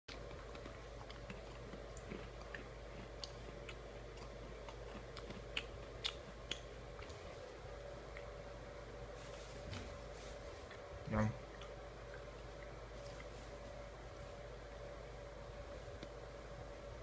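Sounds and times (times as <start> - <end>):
low steady hum: 0.1 - 17.0.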